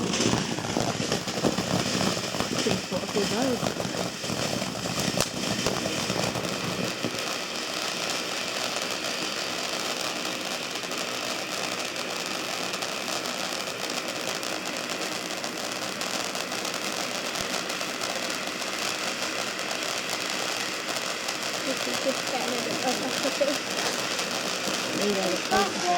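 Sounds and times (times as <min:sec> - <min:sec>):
fine crackling: 0:00.0 - 0:12.2, 0:13.0 - 0:25.9
firework fountain hissing: 0:00.0 - 0:25.9.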